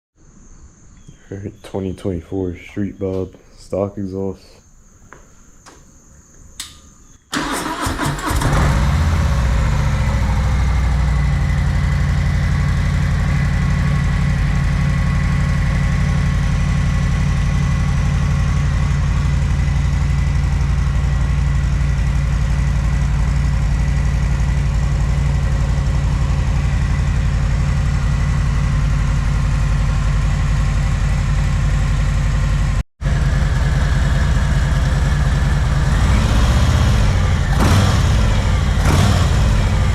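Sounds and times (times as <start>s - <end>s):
motorcycle engine starting and idling: 6.6s - 39.9s.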